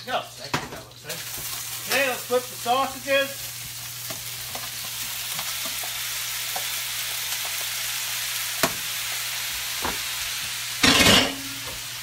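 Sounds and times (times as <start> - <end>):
stir-fry sizzling in a wok: 0.0 - 12.0.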